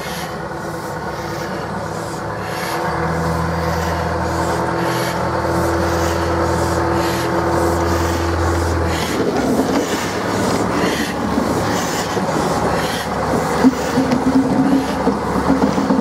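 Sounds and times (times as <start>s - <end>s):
diesel locomotive engine drone: 0.0s - 16.0s
wagon wheels rattling on rails: 0.0s - 16.0s.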